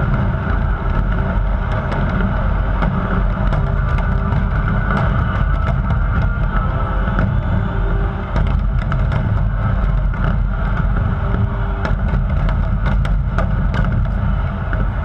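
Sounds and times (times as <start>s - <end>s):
distant fireworks rumble: 0.0s - 15.0s.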